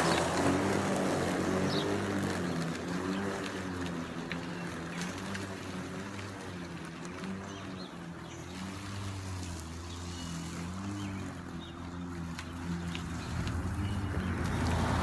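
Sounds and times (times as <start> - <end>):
electric lawn mower cutting grass: 0.0 - 15.0.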